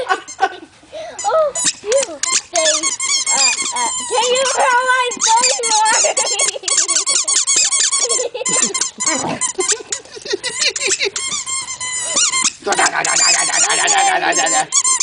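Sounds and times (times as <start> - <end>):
squeaky toy squeaking: 1.2 - 15.0.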